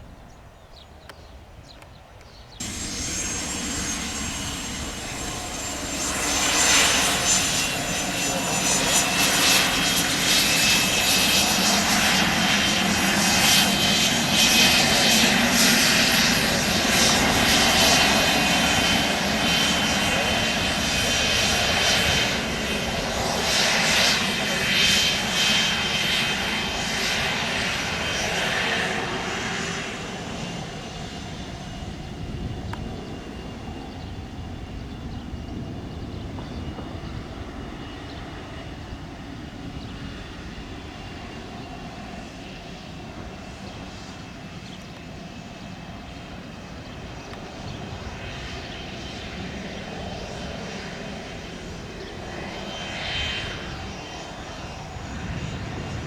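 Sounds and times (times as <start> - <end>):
jet turbofan engines rumbling: 1.6 - 56.0.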